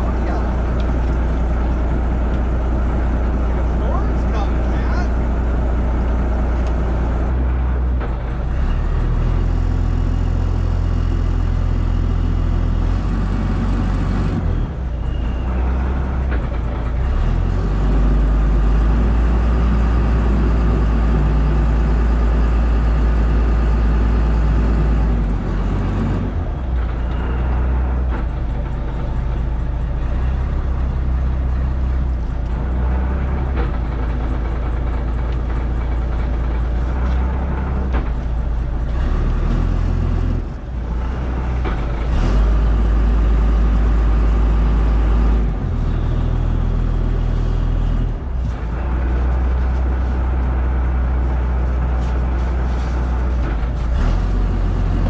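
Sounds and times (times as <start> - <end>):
heavy engine droning: 0.0 - 55.0.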